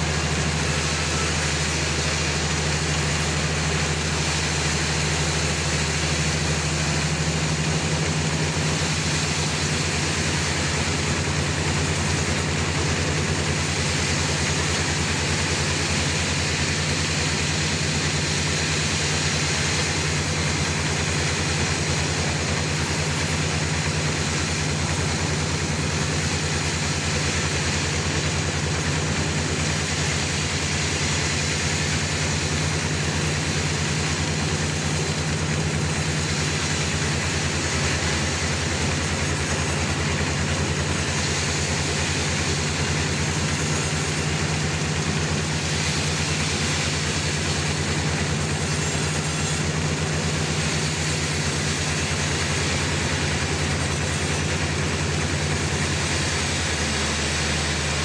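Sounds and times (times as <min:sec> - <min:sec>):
band sawmill sawing a log: 0:00.0 - 0:58.0.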